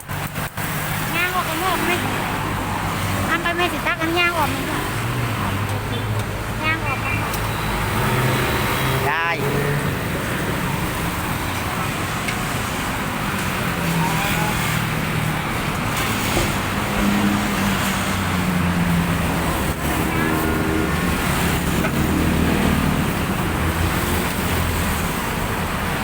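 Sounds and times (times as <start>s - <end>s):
traffic engines humming: 0.0s - 26.0s.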